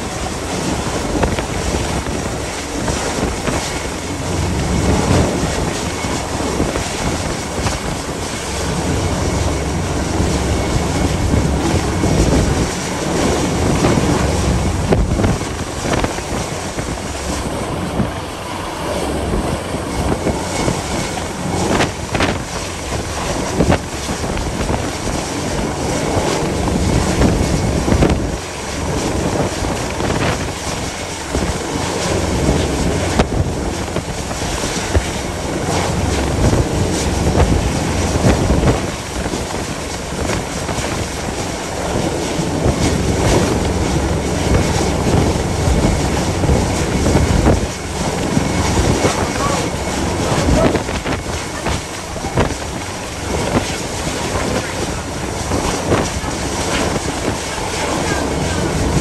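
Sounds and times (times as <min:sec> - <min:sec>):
gale wind on microphone: 0:00.0 - 0:59.0.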